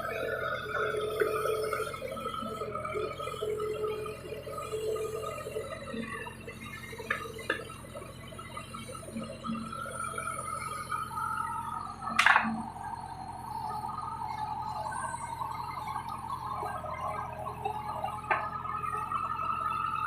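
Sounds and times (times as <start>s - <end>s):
backhoe engine hum and whine: 0.0s - 20.0s.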